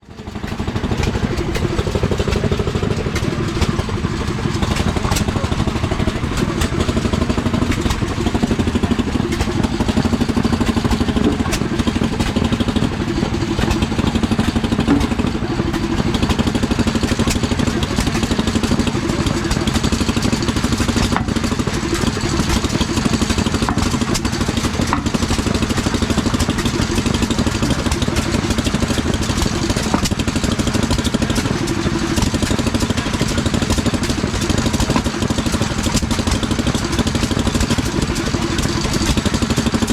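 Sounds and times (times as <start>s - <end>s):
engine running with fast pulsing: 0.0s - 39.9s.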